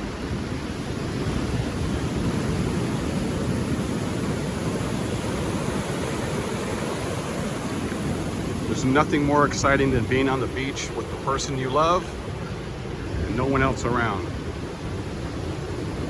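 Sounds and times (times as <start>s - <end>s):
ocean surf washing ashore: 0.0s - 16.0s
wind rumbling on microphone: 0.0s - 16.0s.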